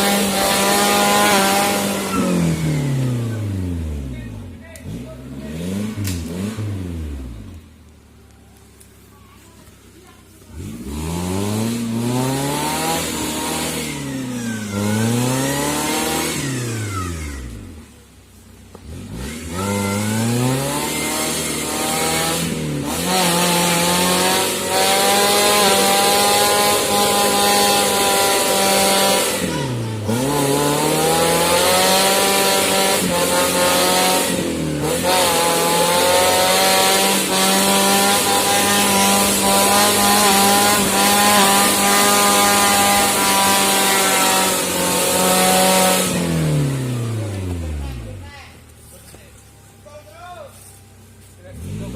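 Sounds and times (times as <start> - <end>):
engine revving: 0.0 - 51.9.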